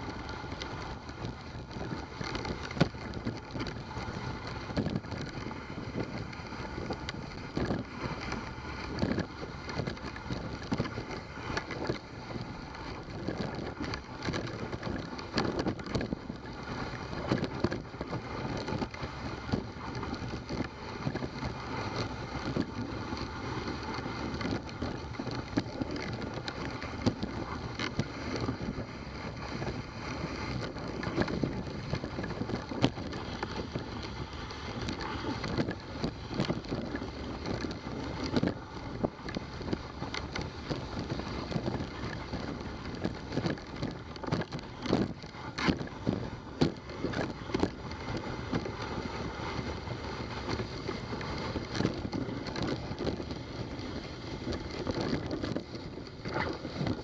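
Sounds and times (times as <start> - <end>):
sled runners hissing over snow: 0.0 - 57.0.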